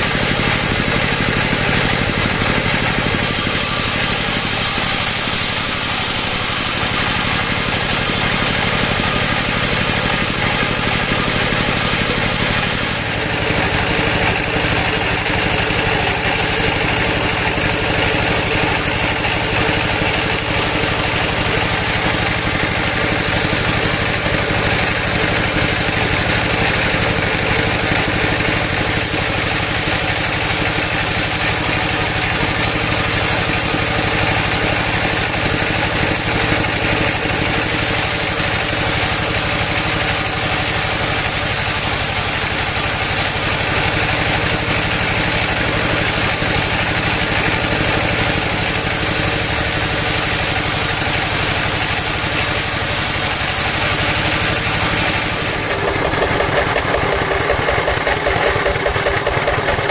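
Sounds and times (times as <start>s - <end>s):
band sawmill drone: 0.0s - 59.9s.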